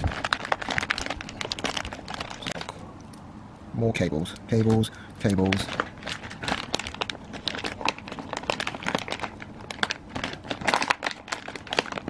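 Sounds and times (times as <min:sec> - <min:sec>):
plastic bags crinkling: 0:00.0 - 0:02.8, 0:04.5 - 0:12.0.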